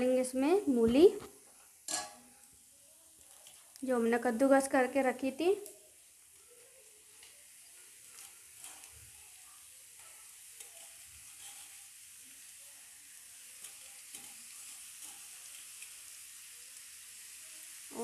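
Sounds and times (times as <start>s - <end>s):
vegetables sizzling in oil: 0.0s - 18.0s
small crackles: 1.0s - 4.1s, 5.4s - 18.0s.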